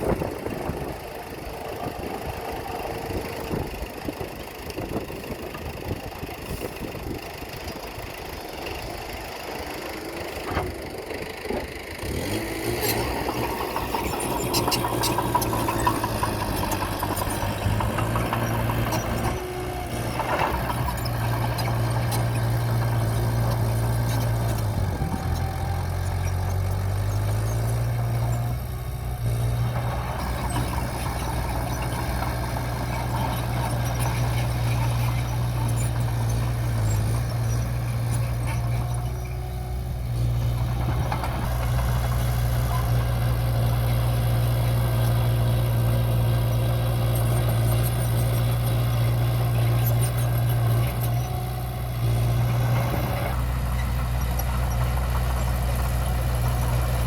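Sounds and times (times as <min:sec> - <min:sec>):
diesel engine of heavy machinery: 0:00.0 - 0:57.0.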